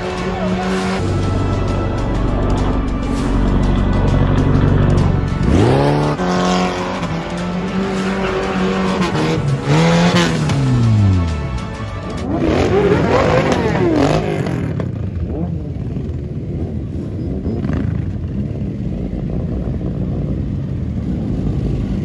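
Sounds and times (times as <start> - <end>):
car engine revving: 0.0 - 19.5.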